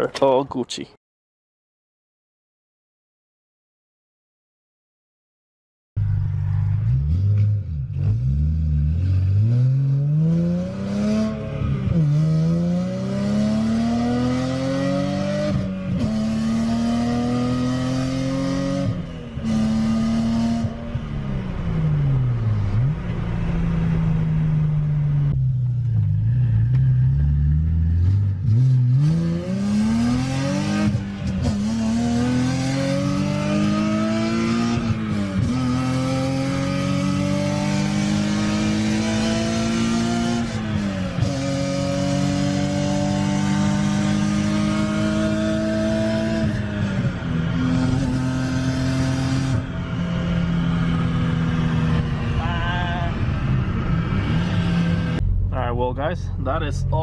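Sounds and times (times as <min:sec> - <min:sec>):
car engine accelerating through gears: 0:06.0 - 0:55.5.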